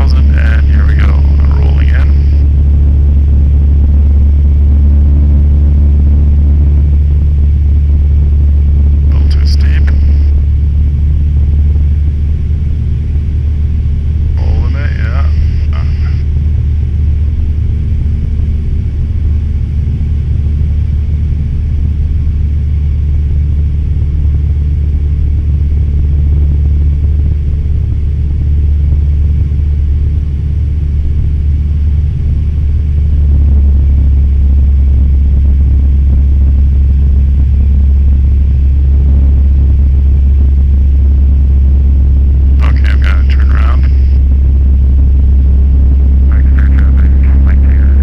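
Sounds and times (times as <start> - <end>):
airplane engine and propeller drone: 0.0 - 48.0.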